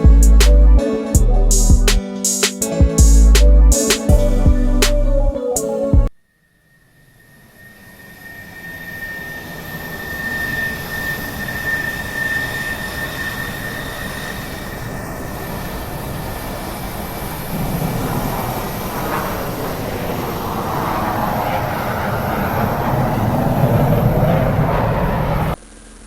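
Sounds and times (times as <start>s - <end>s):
thin high whine: 0.0s - 26.0s
airplane engine drone: 2.6s - 26.0s.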